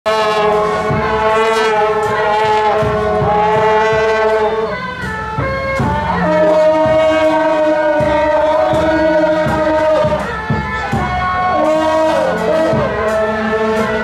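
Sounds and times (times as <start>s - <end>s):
brass horns blowing long notes: 0.1s - 14.0s
low drum beat: 0.1s - 14.0s.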